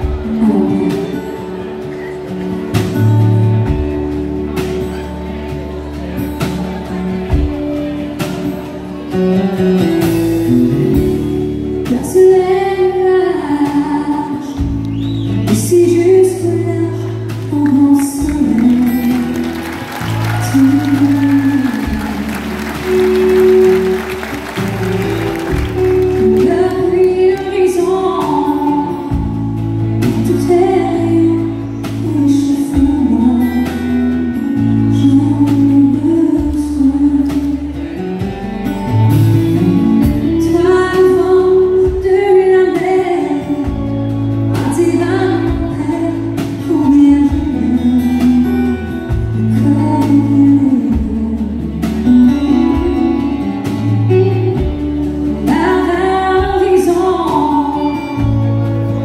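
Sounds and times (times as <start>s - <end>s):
woman singing: 0.0s - 1.8s, 11.7s - 38.3s, 39.6s - 59.0s
live country band: 0.0s - 59.0s.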